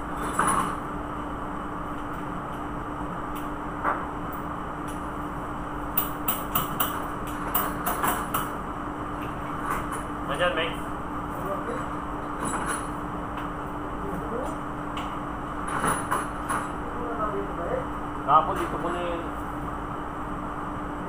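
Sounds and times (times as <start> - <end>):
steady one-pitch hum: 0.0 - 21.0.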